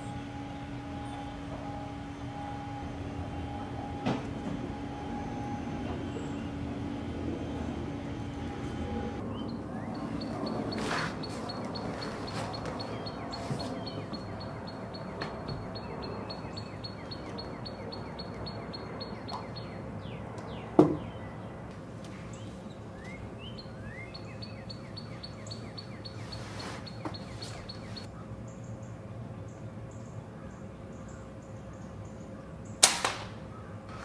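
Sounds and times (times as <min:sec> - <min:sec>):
birds chipping: 0:00.0 - 0:32.8.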